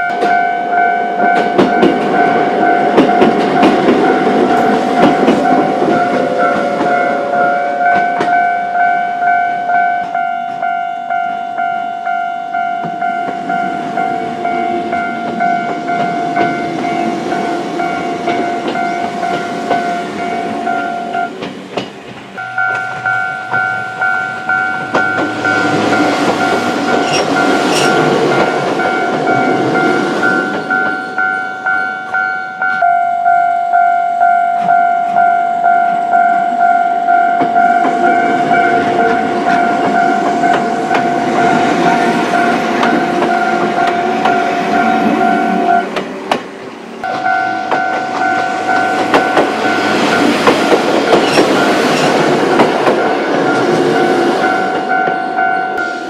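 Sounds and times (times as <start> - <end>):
level crossing bell ringing: 0.0 - 21.4, 22.4 - 46.0, 47.0 - 56.0
train passing over crossing: 0.0 - 56.0.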